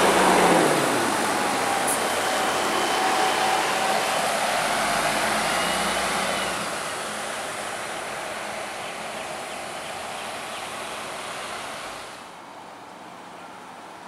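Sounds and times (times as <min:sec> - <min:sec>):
buses driving away: 0:00.0 - 0:12.4
traffic noise: 0:00.0 - 0:14.0.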